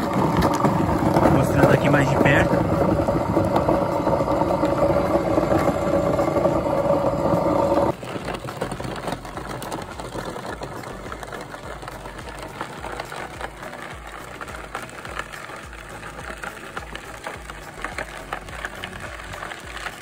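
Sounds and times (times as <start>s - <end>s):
grinding with small ticks: 0.0s - 20.0s
shredder motor humming: 0.0s - 20.0s.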